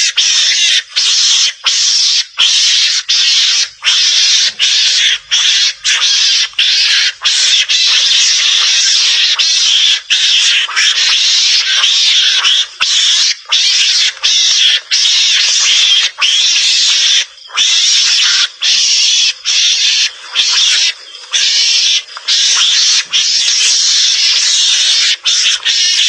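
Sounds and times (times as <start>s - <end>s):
mongoose calls: 0.0s - 26.0s.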